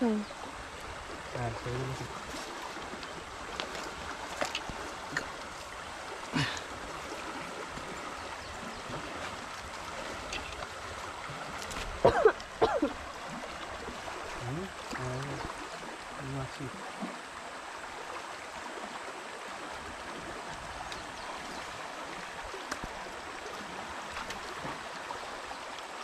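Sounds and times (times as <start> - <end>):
river water flowing over rocks: 0.0 - 26.0.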